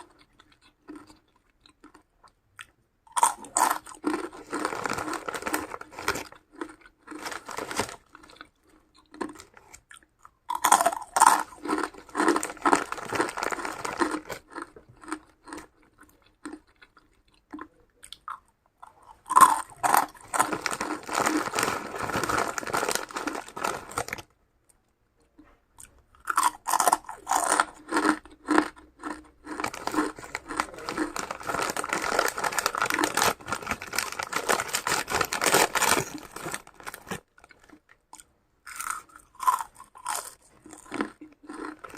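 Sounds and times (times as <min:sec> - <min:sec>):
person chewing crunchy food: 0:00.0 - 0:24.2, 0:25.2 - 0:41.9.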